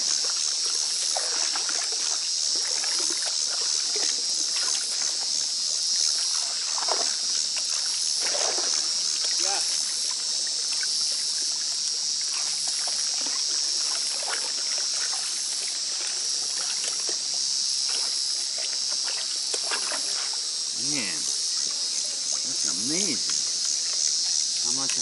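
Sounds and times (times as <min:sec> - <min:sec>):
water splashing by hands: 0:00.0 - 0:20.7
insects chirring: 0:00.0 - 0:25.0.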